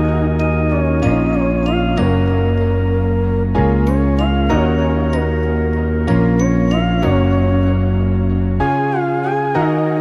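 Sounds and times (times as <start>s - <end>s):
slow gliding melody: 0.0s - 10.0s
sustained bass notes: 0.0s - 10.0s.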